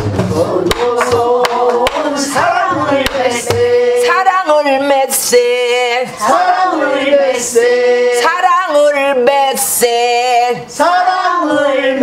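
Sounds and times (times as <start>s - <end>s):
voices singing folk song together: 0.0s - 12.0s.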